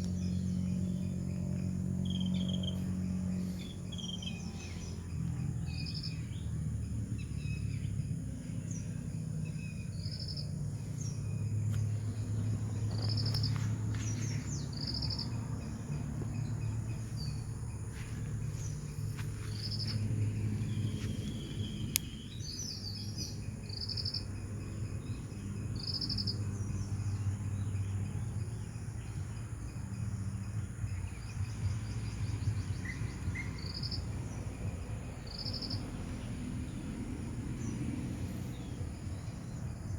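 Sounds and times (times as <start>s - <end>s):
birds calling: 0.0s - 39.9s
crickets chirping: 0.0s - 39.9s
insects trilling: 0.0s - 39.9s.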